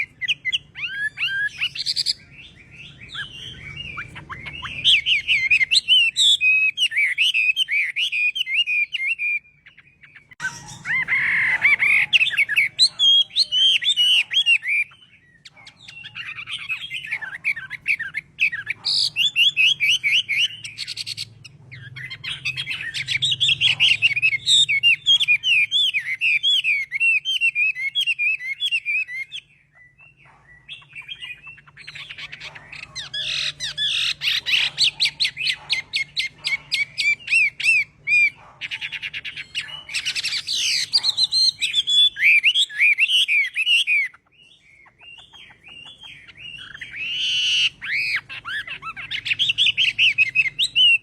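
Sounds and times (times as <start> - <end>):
bird singing varied whistled notes: 0.0 - 51.0.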